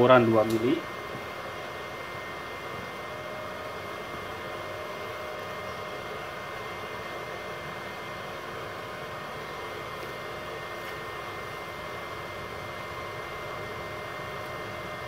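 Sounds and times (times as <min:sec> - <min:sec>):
welder cooling fan whirring: 0:00.0 - 0:15.0.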